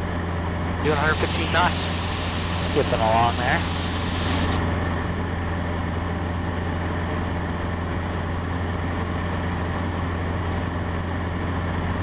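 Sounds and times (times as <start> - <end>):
airplane engine and propeller humming: 0.0 - 12.0.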